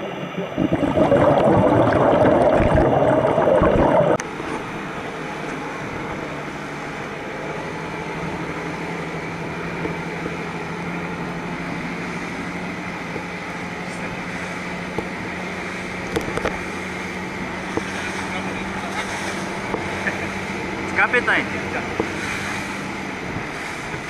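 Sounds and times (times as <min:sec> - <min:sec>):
speedboat engine humming: 0:00.0 - 0:24.0
wind and water rushing: 0:00.0 - 0:24.0.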